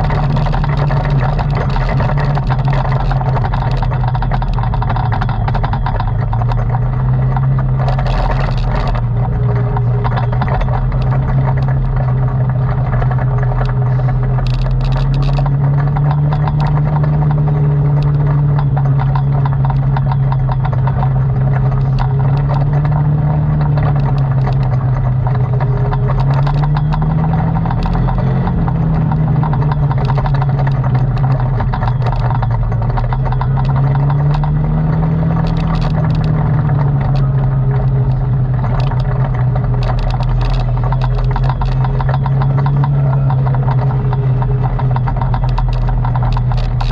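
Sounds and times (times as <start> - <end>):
atv engine running: 0.0 - 46.9
rattles and clicks: 0.0 - 46.9.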